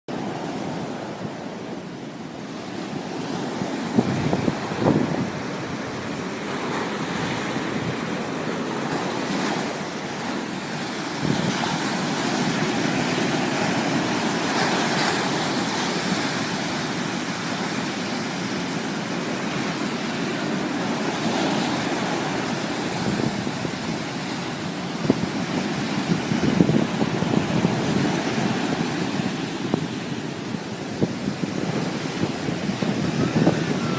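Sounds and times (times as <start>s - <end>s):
sea waves breaking: 0.1s - 33.9s.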